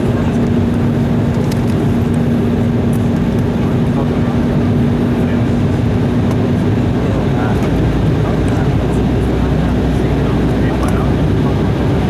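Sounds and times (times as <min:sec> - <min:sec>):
airflow rushing in aircraft cabin: 0:00.0 - 0:12.0
jet engines: 0:00.0 - 0:12.0
steady low hum: 0:00.0 - 0:12.0.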